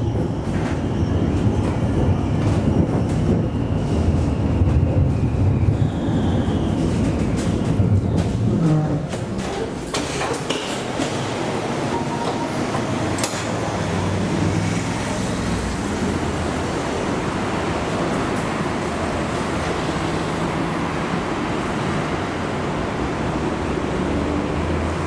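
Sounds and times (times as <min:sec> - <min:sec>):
street traffic: 0:00.0 - 0:25.0
tram mechanical noise: 0:00.0 - 0:25.0.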